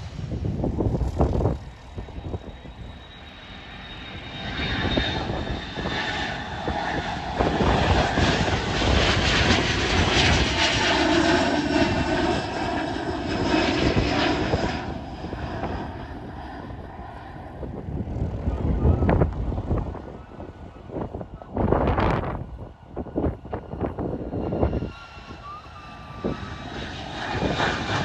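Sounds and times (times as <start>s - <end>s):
jet aircraft passing: 0.0s - 28.0s.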